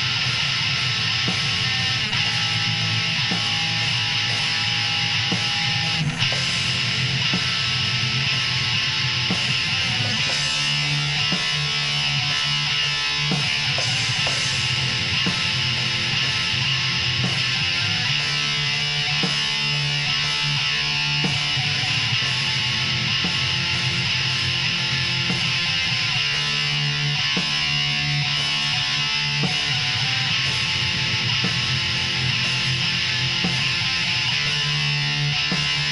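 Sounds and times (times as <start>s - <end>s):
distorted electric guitars: 0.0s - 35.9s
drums: 0.0s - 35.9s.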